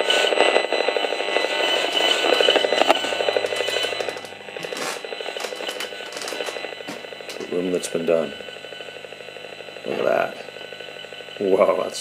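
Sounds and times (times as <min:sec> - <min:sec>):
meter buzzing in fast pulse: 0:00.0 - 0:12.0.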